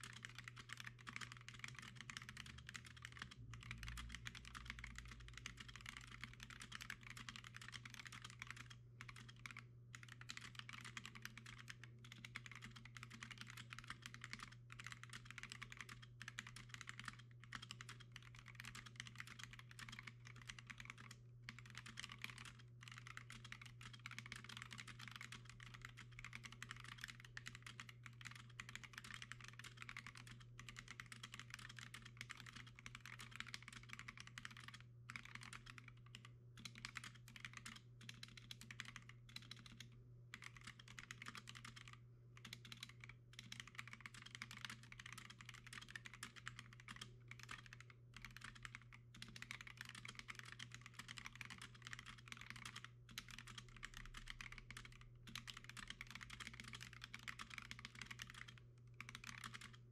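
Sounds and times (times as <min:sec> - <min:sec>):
faint steady low hum: 0:00.0 - 0:59.9
fast mechanical keyboard typing: 0:00.0 - 0:59.9.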